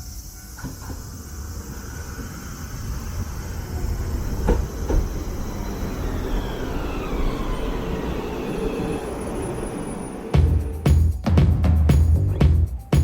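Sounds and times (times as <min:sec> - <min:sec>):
tram rumbling on tracks: 0:00.0 - 0:13.0.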